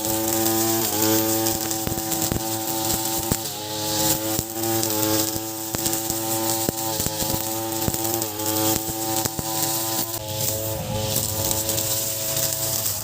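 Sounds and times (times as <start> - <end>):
brush cutter engine running: 0.0 - 13.0
trimmer line striking stalks: 0.0 - 13.0.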